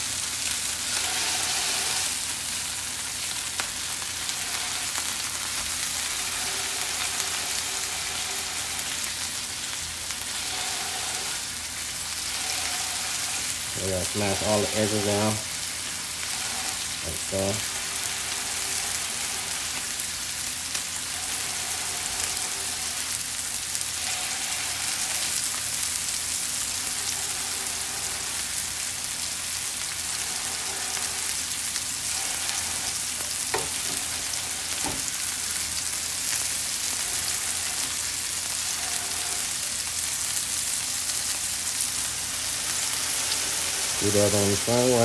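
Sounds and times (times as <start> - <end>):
burger sizzling on a griddle: 0.0 - 45.0.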